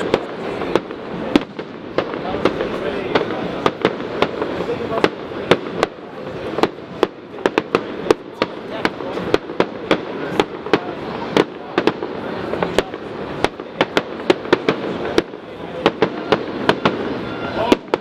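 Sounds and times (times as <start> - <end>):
sharp firework bangs: 0.0 - 18.0.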